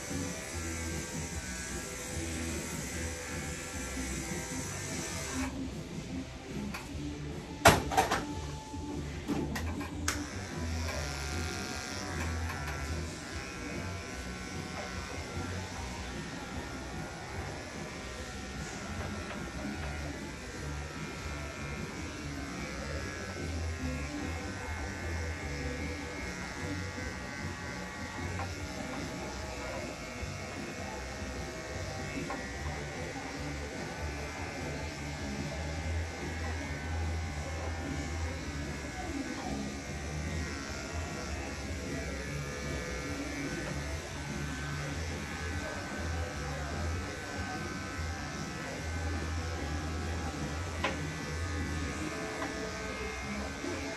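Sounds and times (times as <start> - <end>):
electric clippers buzzing: 0.0 - 53.9.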